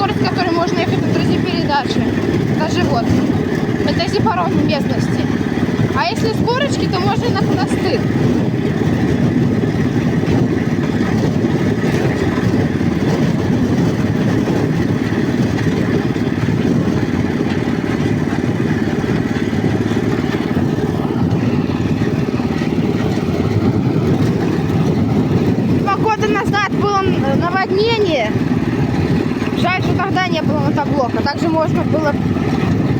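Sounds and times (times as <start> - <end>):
walk-behind tractor engine running: 0.0 - 32.9.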